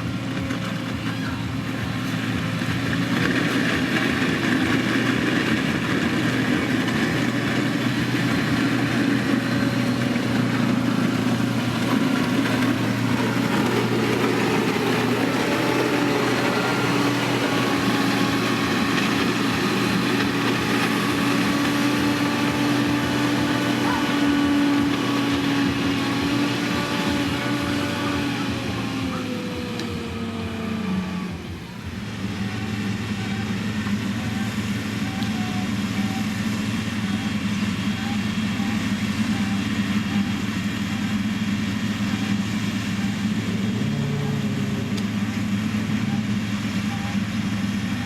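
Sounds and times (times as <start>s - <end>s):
heavy machinery diesel engine: 0.0s - 48.0s.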